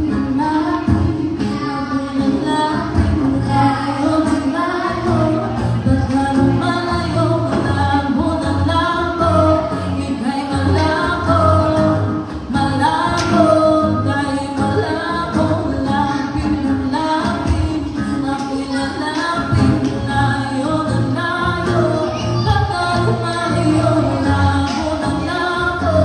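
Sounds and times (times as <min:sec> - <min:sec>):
person singing into a microphone: 0:00.0 - 0:26.0
strummed acoustic guitar: 0:00.0 - 0:26.0.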